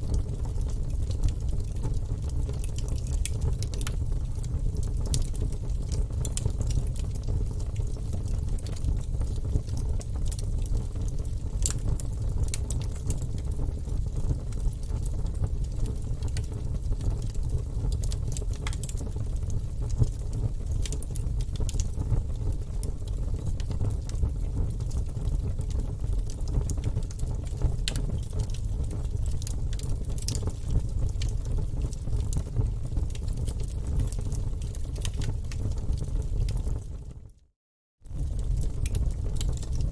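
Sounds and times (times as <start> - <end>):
wood fire crackling and popping: 0.1 - 37.2, 38.1 - 39.9.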